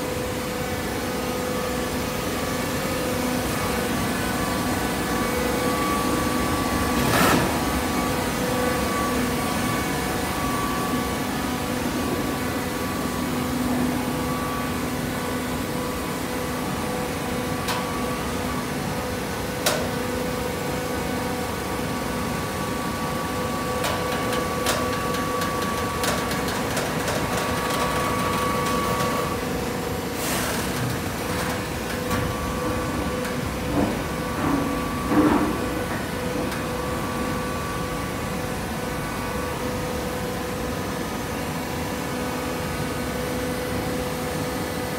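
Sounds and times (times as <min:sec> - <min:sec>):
hydraulic machine hum and whine: 0:00.0 - 0:44.9.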